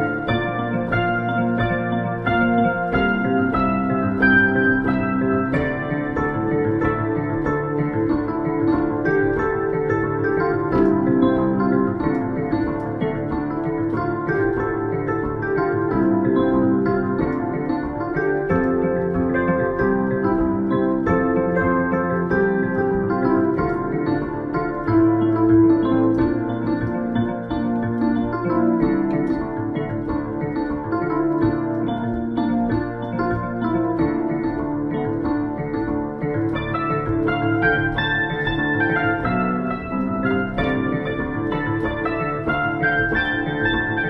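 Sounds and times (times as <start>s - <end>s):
new-age keyboard music: 0.0s - 44.0s.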